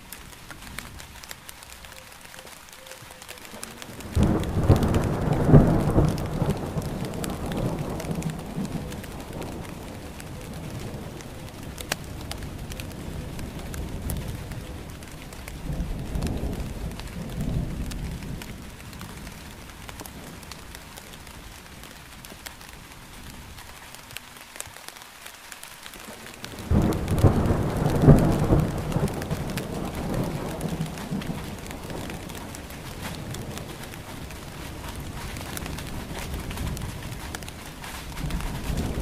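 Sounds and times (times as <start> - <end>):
steady rain: 0.0 - 39.0
rolling thunder: 3.5 - 22.3, 26.1 - 39.0.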